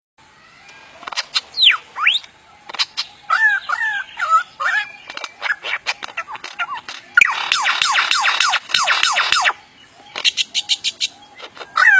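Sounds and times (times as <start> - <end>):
lyrebird mimicking sounds: 1.0 - 11.9.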